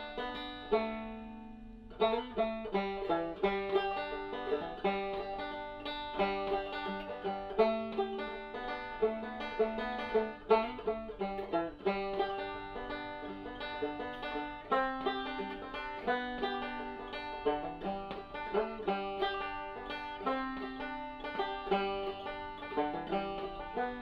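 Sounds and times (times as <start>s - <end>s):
fast plucked banjo tune: 0.0s - 24.0s.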